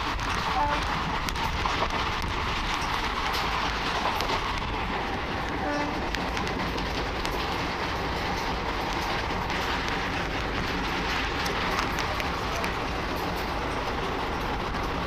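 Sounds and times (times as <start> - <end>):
train wind and wheels rushing: 0.0 - 15.0.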